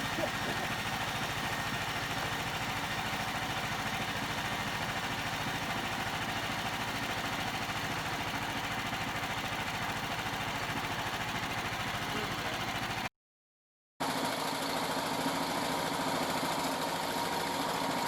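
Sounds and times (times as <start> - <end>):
sawmill engine running: 0.0 - 13.1, 14.0 - 18.0.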